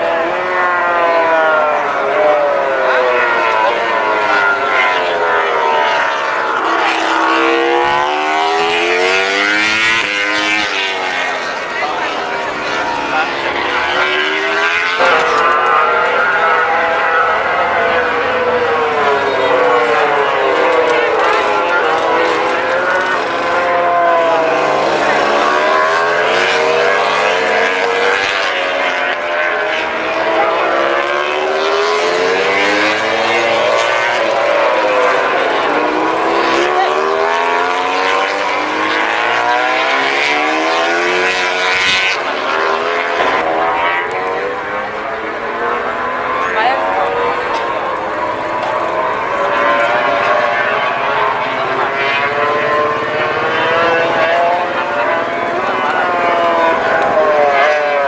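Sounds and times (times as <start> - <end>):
racing motorcycle engines revving: 0.0 - 58.0.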